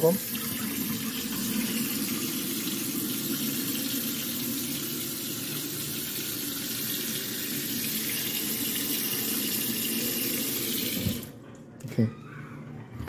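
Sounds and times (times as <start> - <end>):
faucet running into sink: 0.0 - 11.4.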